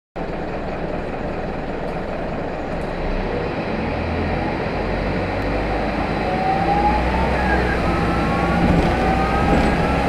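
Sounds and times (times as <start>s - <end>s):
bus diesel engine droning: 0.2s - 10.0s.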